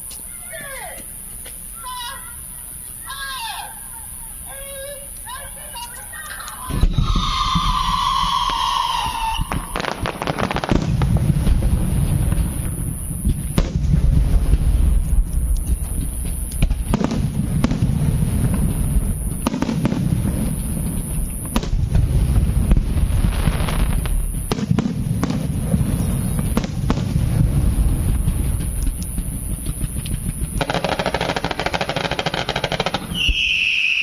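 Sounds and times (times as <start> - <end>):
distant fireworks rumbling: 0.0 - 34.0
firework hissing burst: 0.0 - 34.0
sharp firework bangs: 6.6 - 34.0.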